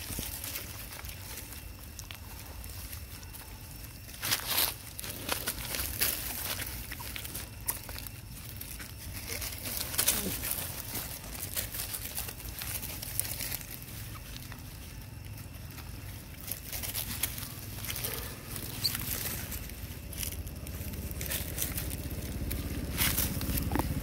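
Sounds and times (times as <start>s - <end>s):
leaves rustling and crackling: 0.0s - 24.0s.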